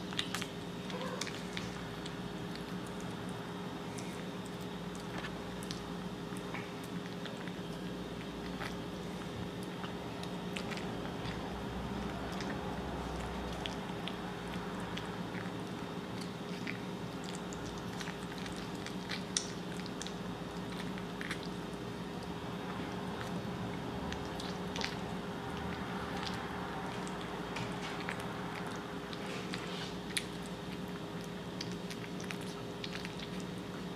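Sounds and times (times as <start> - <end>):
kitten chewing wet food: 0.0 - 33.9
steady low hum: 0.0 - 33.9.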